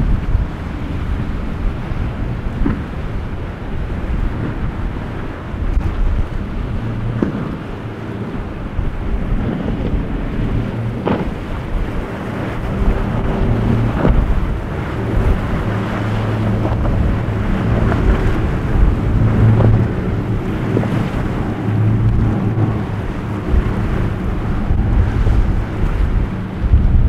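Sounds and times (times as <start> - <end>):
boat engines humming: 0.0 - 27.0
water splashing off hull: 0.0 - 27.0
wind buffeting microphone: 0.0 - 27.0.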